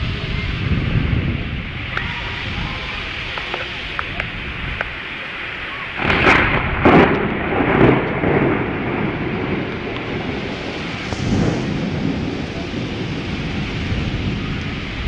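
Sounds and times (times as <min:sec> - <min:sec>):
steady rain falling: 0:00.0 - 0:15.0
thunder rumbling: 0:00.0 - 0:15.0.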